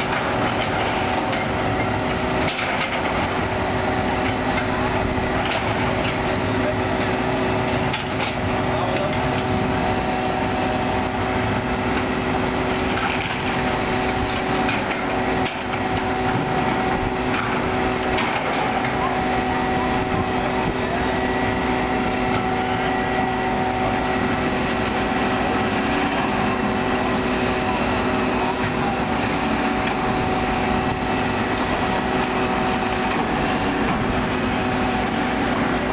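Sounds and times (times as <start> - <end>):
diesel engines humming: 0.0 - 35.9.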